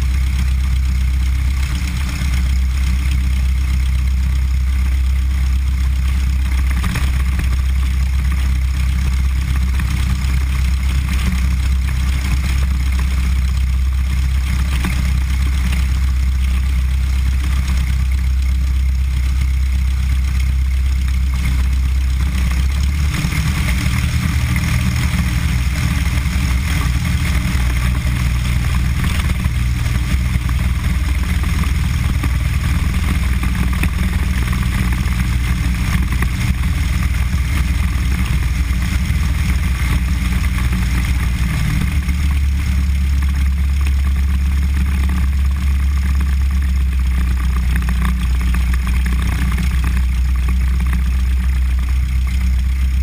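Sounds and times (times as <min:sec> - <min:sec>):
propeller plane engine running: 0:00.0 - 0:53.0.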